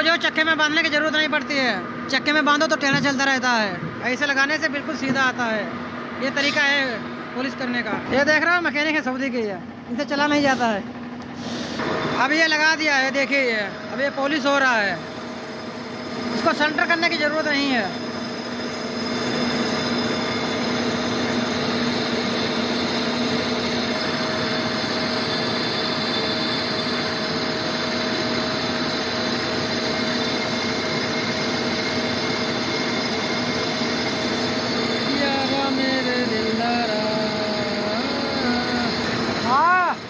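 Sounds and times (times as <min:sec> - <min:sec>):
constant mechanical tones: 0:00.0 - 0:40.0
lathe running: 0:00.0 - 0:40.0.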